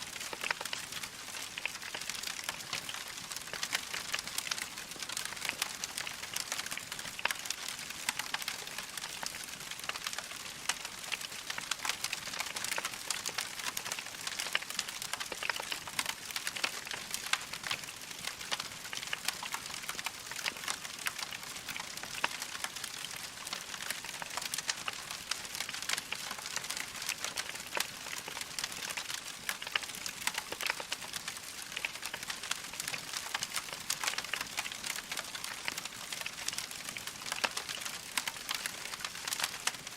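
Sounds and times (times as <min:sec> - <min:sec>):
wood logs crackling in fireplace: 0:00.0 - 0:39.9.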